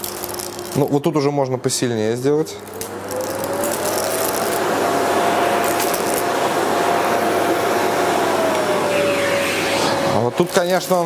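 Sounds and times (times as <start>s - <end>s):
vacuum cleaner motor whine: 0.0s - 11.0s.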